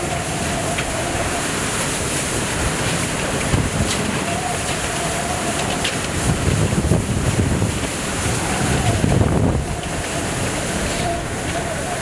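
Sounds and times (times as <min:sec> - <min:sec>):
hurricane wind gusting: 0:00.0 - 0:12.0.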